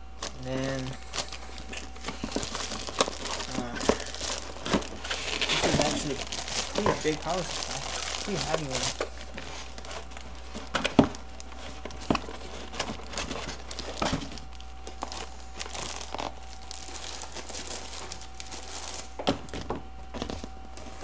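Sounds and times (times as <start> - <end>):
plastic bag crinkling: 0.0 - 19.6.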